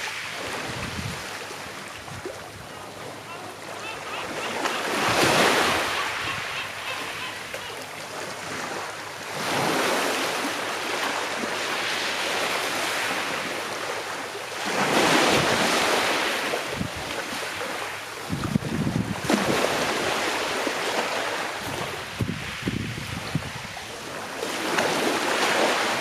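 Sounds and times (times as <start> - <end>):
calm sea waves washing ashore: 0.0 - 26.0.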